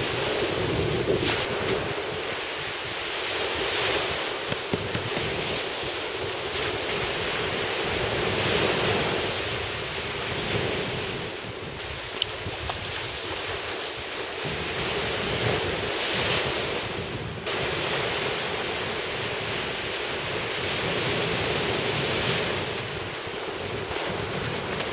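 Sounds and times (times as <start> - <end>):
waves breaking on beach: 0.0 - 24.9
wind buffeting microphone: 0.0 - 24.9.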